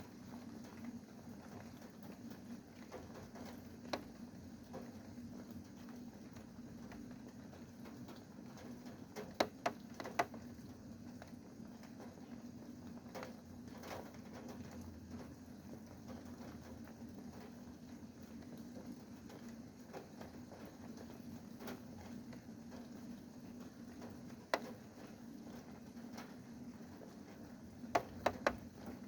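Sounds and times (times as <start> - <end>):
raindrops tapping: 0.0 - 29.0.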